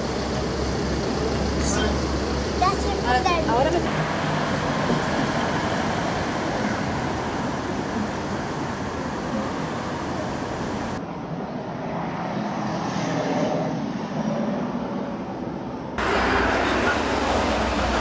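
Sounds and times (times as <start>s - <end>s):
street traffic noise: 0.0s - 18.0s.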